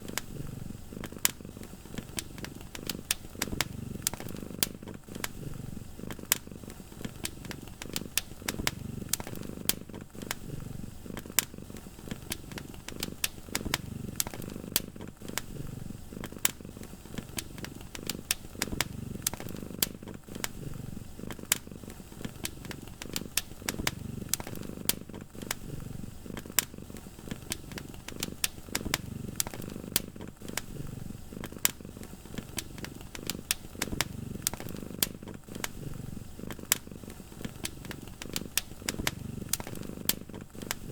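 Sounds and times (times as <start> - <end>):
cat purring: 0.0 - 40.9
wood fire crackling: 0.0 - 40.9.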